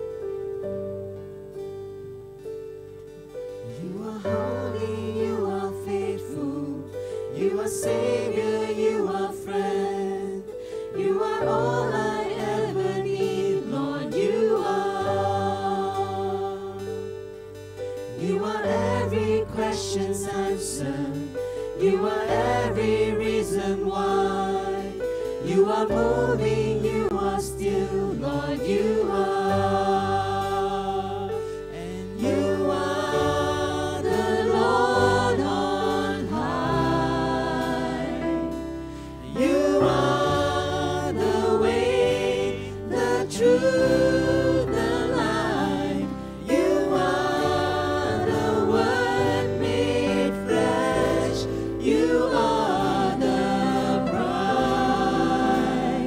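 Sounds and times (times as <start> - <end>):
group singing worship song: 3.4 - 56.0
band with steady bass line: 11.1 - 56.0.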